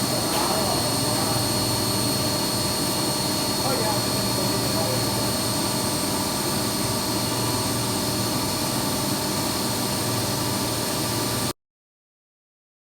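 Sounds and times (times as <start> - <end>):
machine whine over low hum: 0.0 - 11.5.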